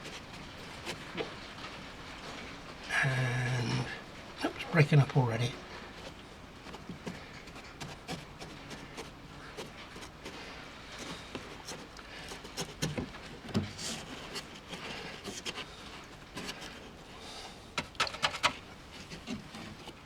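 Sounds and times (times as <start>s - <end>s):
hands tapping and rustling paper: 0.0s - 20.0s.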